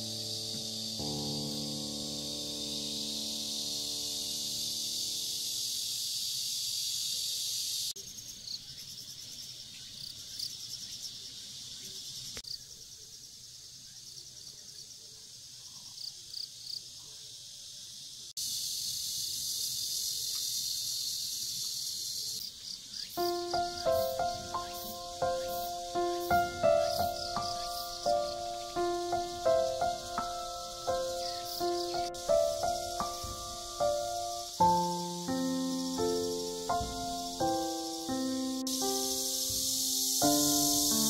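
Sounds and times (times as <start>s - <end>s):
insect chorus shrilling: 0.0s - 41.0s
short insect chirps: 0.0s - 41.0s.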